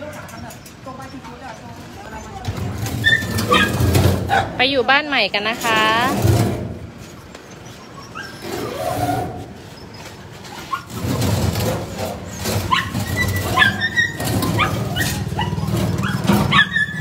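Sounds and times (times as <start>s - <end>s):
dogs whining and yipping: 0.1s - 4.6s, 7.4s - 17.0s.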